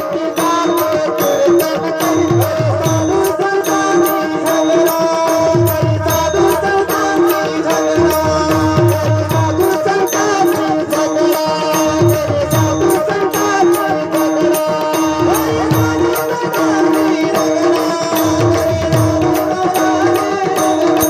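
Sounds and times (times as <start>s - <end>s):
tabla drumming: 0.0s - 21.0s
steady held tones: 0.4s - 21.0s.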